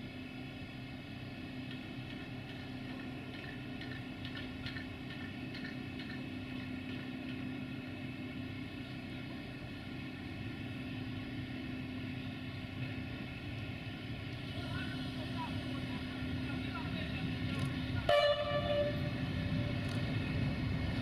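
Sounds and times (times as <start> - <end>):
train machinery hum: 0.0 - 21.0.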